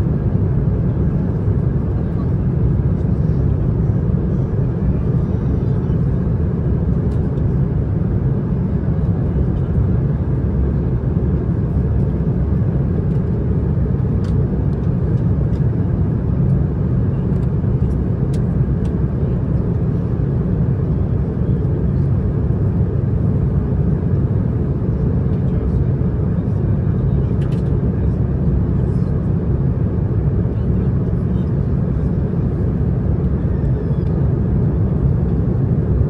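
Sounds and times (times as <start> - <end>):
airplane cabin drone: 0.0 - 36.0.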